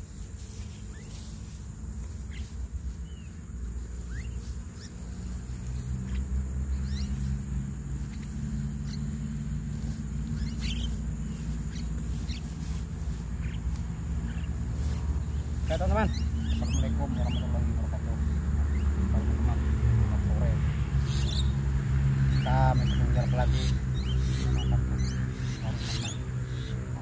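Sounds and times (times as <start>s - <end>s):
birds chirping and squeaking: 0.0s - 27.0s.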